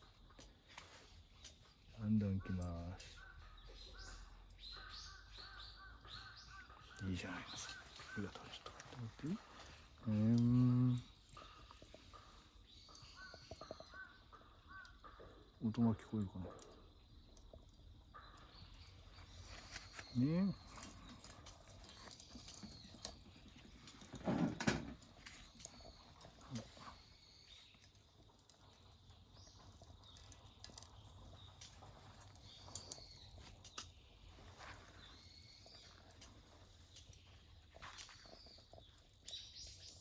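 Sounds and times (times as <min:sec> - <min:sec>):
fire crackling and popping: 0:00.0 - 0:40.0
low rumble of stove draft: 0:01.1 - 0:40.0.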